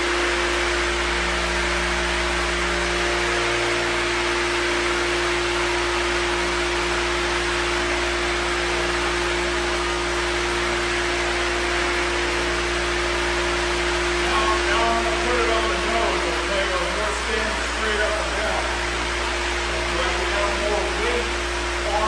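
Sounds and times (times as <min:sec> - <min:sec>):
floor sander hissing: 0:00.0 - 0:22.0
motor humming: 0:00.0 - 0:22.0.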